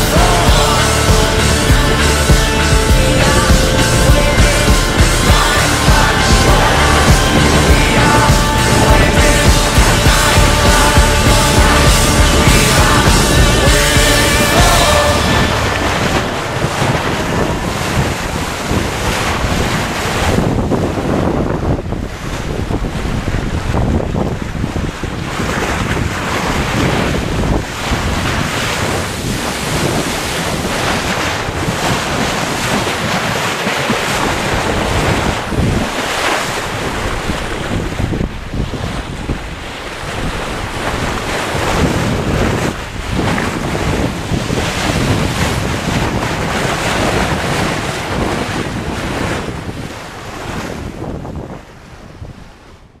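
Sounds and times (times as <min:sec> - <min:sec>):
bow wave splashing along hull: 0:00.0 - 0:53.0
wind buffeting microphone: 0:00.0 - 0:53.0.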